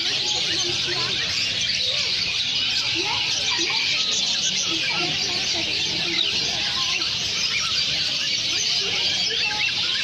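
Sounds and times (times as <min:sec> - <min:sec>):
many birds chirping: 0:00.0 - 0:10.0.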